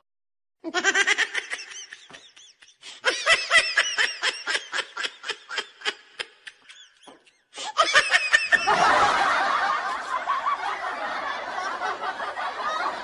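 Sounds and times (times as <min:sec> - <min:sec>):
laughter in quick bursts: 0:00.7 - 0:13.0.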